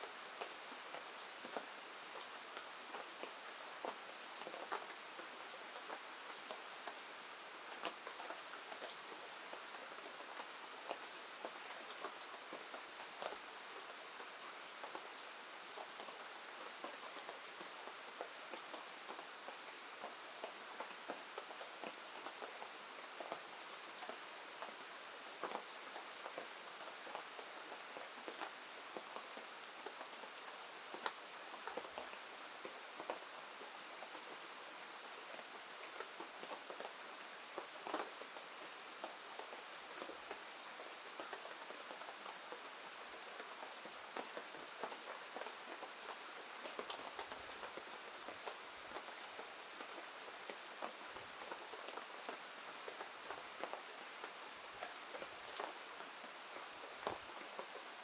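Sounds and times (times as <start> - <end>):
steady rain: 0.0 - 58.0
raindrops clicking on a surface: 0.1 - 58.0.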